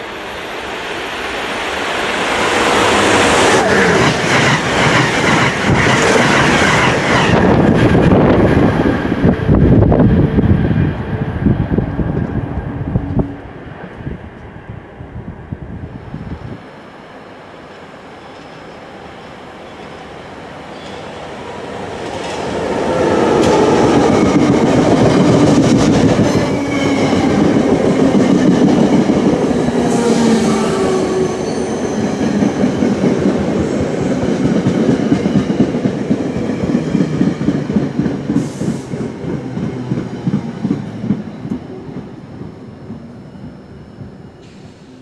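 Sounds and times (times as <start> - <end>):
train passing rumble: 0.0 - 45.0.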